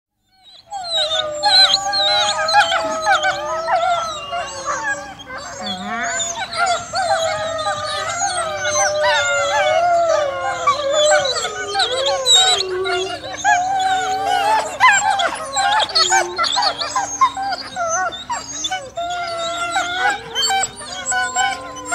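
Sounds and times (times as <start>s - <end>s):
wolves whining: 0.3s - 21.9s
wolves howling: 0.4s - 21.9s.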